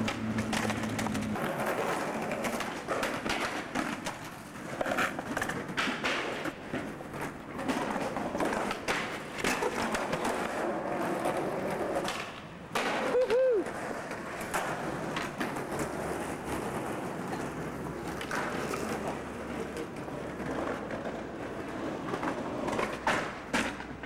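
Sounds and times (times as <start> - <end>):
skateboard wheels rolling on pavement: 0.0 - 24.0.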